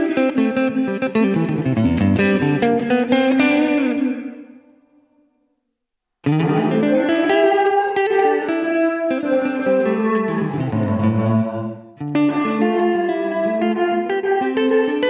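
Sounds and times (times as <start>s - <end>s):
electric guitar with reverb: 0.0s - 5.6s, 6.2s - 15.0s.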